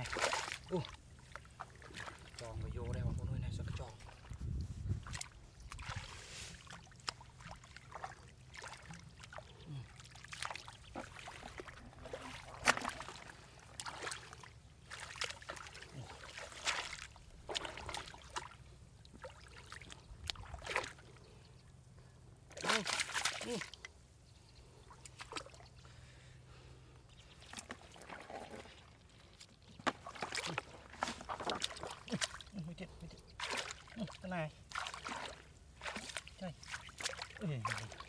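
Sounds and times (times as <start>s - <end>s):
shallow water splashing: 0.0s - 21.4s, 27.1s - 38.0s.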